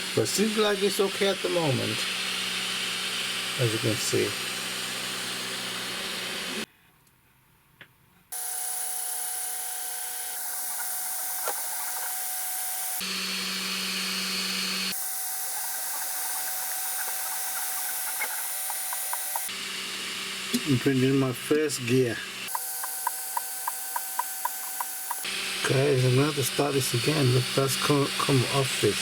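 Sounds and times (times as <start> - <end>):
stepper motors whining: 0.0 - 6.7, 8.4 - 29.0.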